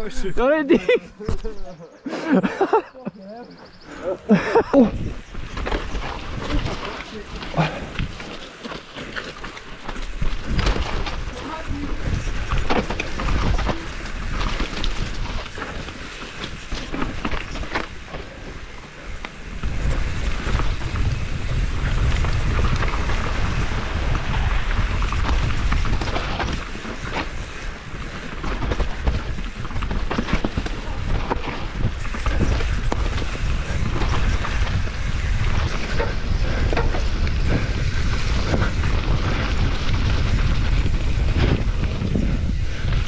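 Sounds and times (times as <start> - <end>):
bike tyres on dirt: 3.3 - 43.0
wind rumble on microphone: 4.5 - 8.4, 9.2 - 43.0
bike knocking and rattling: 5.0 - 43.0.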